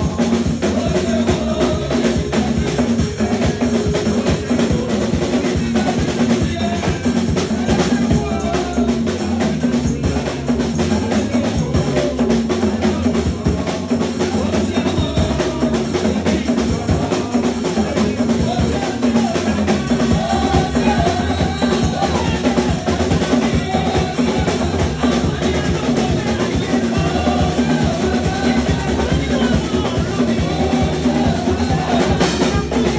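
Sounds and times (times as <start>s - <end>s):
drum kit beat: 0.0s - 32.9s
sustained bass notes: 0.0s - 32.9s.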